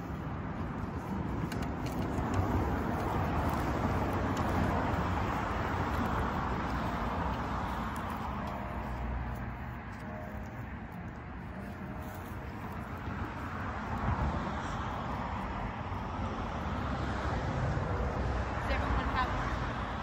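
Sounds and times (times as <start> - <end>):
car passing: 0.0 - 20.0.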